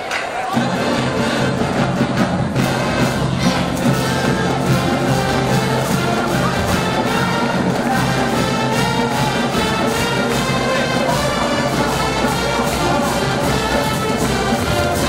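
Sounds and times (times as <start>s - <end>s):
brass band music: 0.5s - 15.0s.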